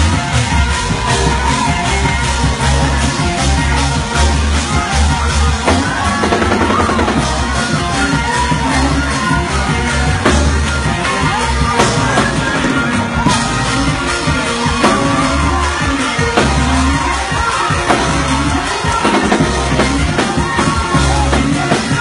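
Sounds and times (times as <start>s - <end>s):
drum kit: 0.0s - 22.0s
heavy bass: 0.0s - 22.0s
organ: 0.0s - 22.0s
voices singing: 0.0s - 22.0s.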